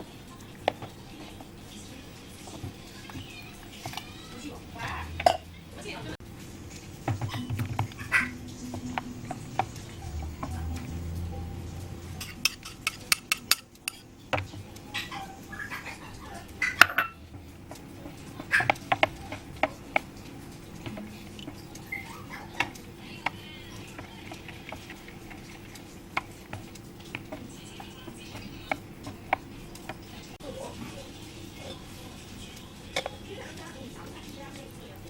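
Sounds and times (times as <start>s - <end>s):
kitchen utensils clinking on dishes: 0.0s - 5.6s, 7.1s - 34.1s.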